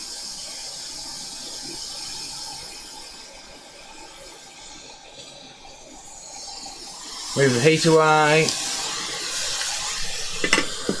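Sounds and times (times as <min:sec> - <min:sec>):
hot air station hissing: 0:00.0 - 0:11.0.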